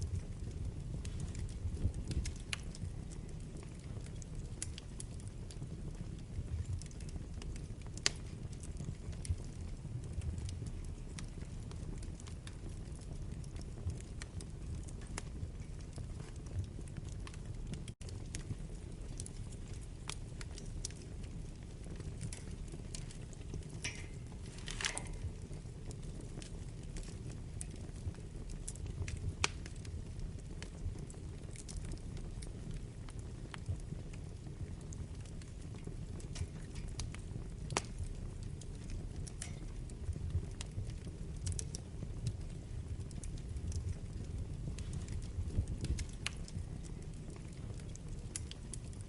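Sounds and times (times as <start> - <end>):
burning wood crackling and popping: 0.0 - 49.0
low rumble of flames: 0.0 - 49.0.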